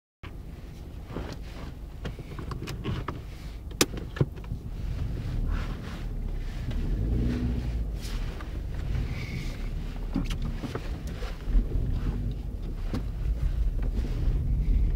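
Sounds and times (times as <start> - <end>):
car engine rumble inside cabin: 0.2 - 14.9.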